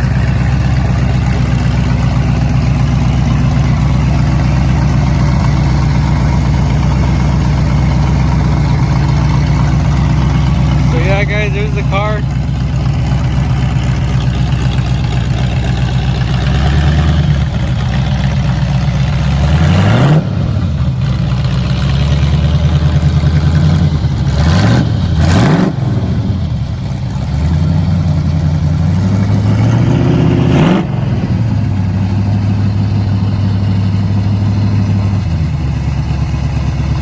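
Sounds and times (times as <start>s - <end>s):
loud car engine idling and revving: 0.0s - 37.0s.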